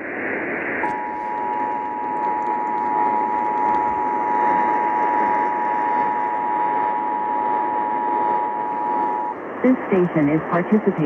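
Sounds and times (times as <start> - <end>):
radio static and hiss: 0.0 - 11.0.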